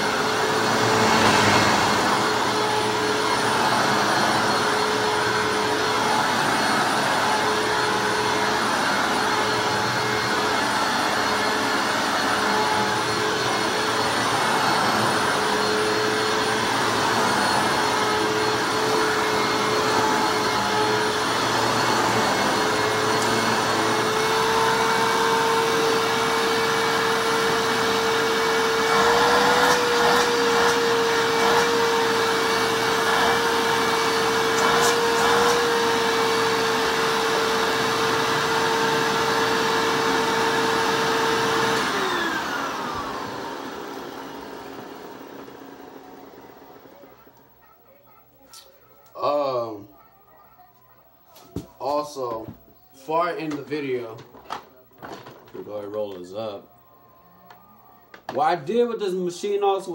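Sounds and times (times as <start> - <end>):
vacuum cleaner motor whine: 0.0 - 48.0, 49.1 - 49.9, 51.4 - 59.9.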